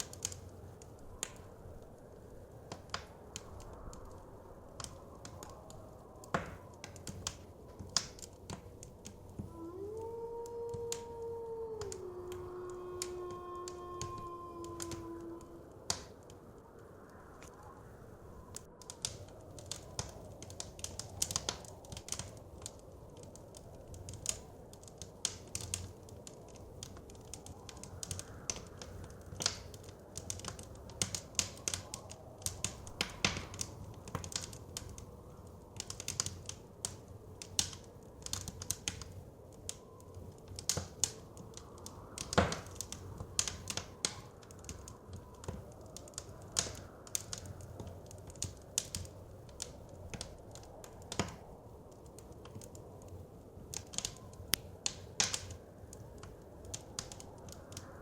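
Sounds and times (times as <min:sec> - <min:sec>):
low steady rush: 0:00.0 - 0:58.0
wood fire crackling and popping: 0:00.0 - 0:58.0.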